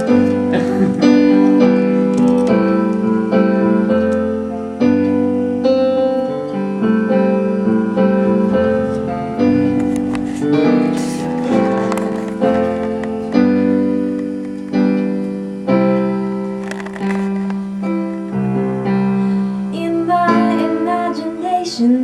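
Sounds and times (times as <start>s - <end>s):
electric piano chords: 0.0s - 22.0s.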